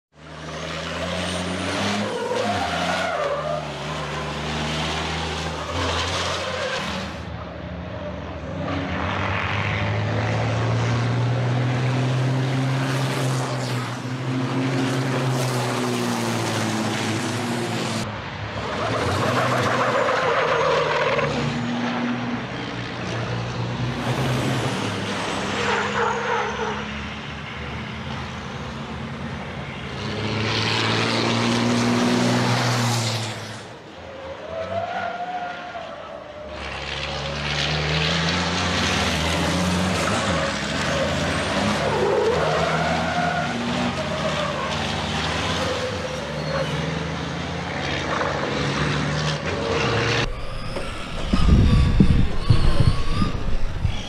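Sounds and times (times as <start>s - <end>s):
racing truck diesel engines revving: 0.2s - 54.0s.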